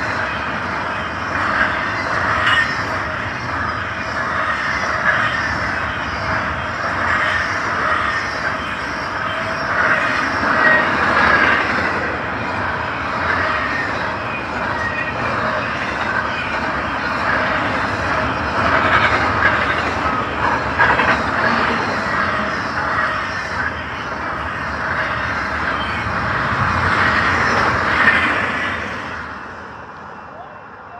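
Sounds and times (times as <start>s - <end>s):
train wheels rolling on rails: 0.0s - 30.9s.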